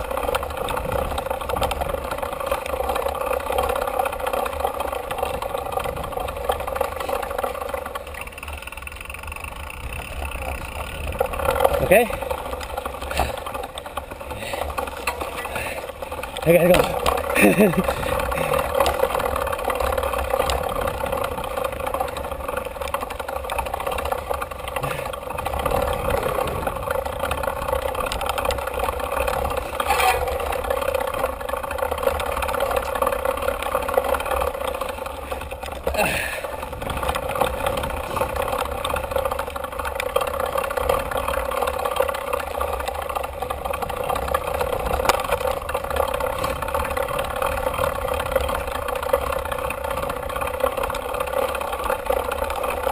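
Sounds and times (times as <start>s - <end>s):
bike rattling: 0.0s - 52.9s.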